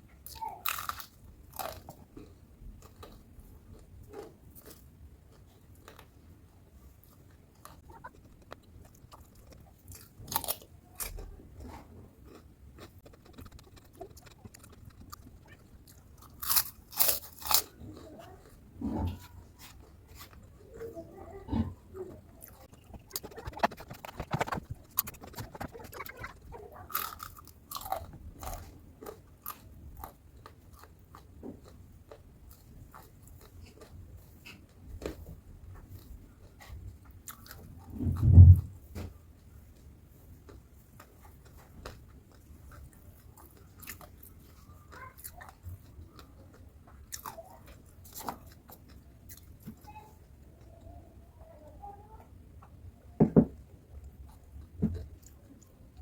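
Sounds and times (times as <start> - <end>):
crunchy food chewing: 0.2 - 38.8, 39.7 - 50.8, 53.6 - 56.0.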